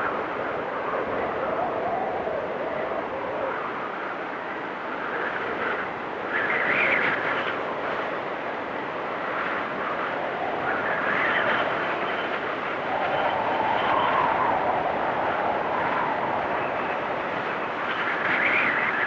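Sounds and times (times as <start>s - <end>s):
blizzard wind gusting: 0.0s - 19.0s.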